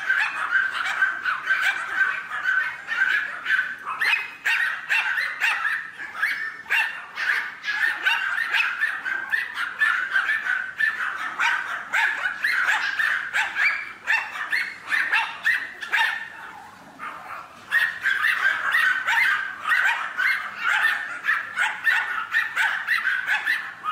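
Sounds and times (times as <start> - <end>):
small dogs yapping and barking: 0.0 - 23.9.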